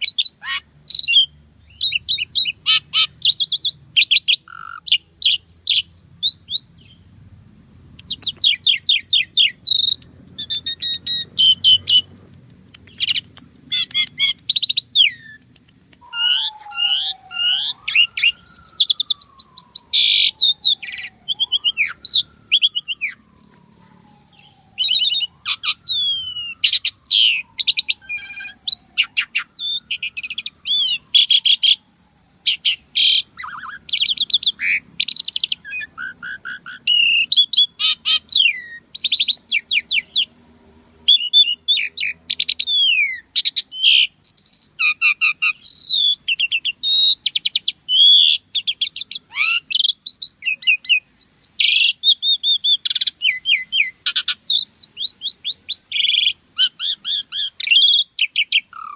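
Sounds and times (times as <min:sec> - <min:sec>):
starling singing: 0:00.0 - 0:07.2, 0:07.8 - 0:58.9.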